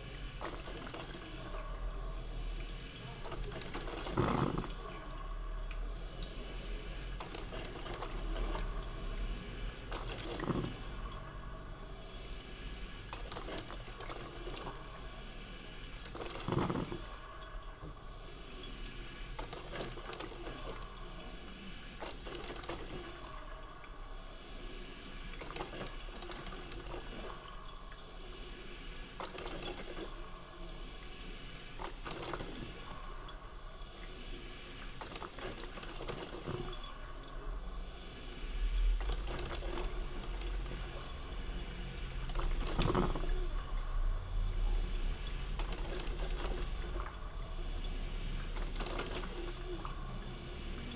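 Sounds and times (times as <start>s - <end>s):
coffee maker gurgling and hissing: 0.0s - 50.9s.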